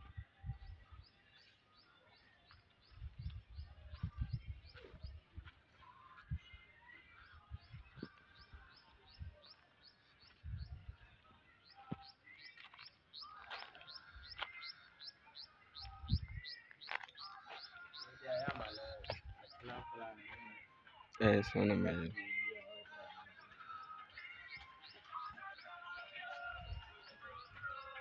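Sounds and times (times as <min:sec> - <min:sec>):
scattered bird calls: 0:00.2 - 0:19.9, 0:22.8 - 0:28.0.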